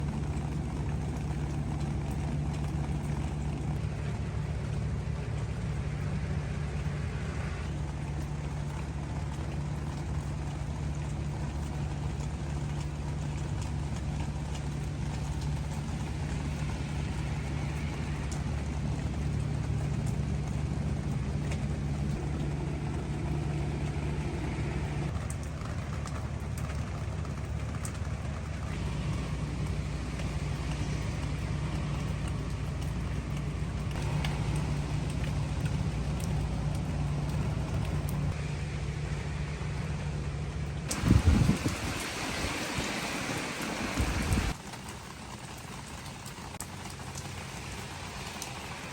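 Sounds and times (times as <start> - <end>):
steady low hum: 0.0 - 44.6
rain hissing: 0.0 - 48.9
raindrops ticking on leaves: 0.0 - 48.9.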